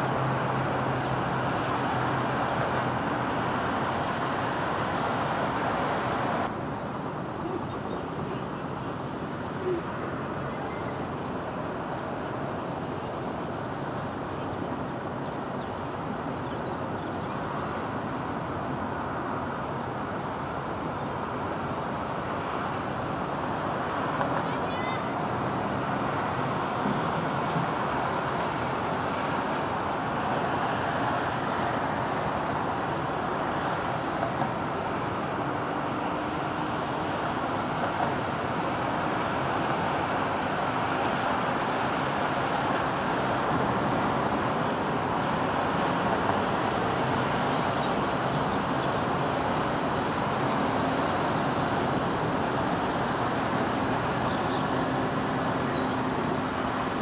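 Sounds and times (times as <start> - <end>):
road traffic rushing: 0.0 - 57.0.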